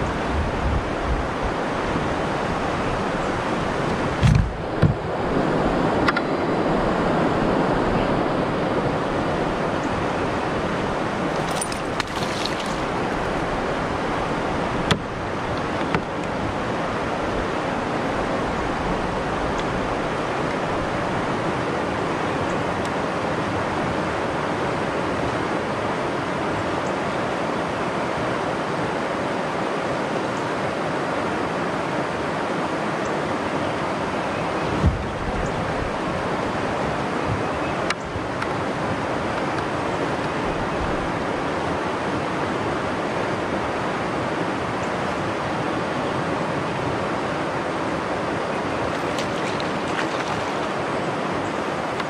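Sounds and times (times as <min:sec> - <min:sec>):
wind on microphone: 0:00.0 - 0:29.5, 0:33.4 - 0:52.0
water lapping around kayak: 0:00.0 - 0:52.0.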